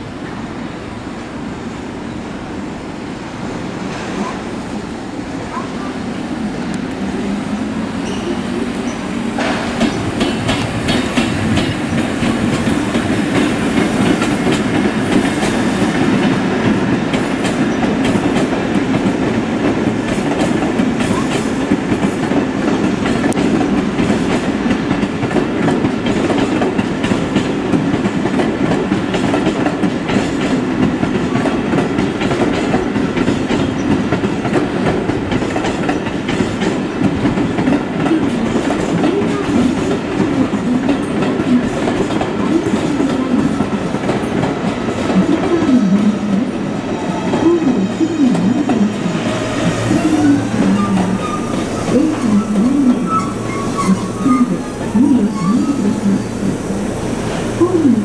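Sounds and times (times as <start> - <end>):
steel wheels on rail: 3.3 - 58.0.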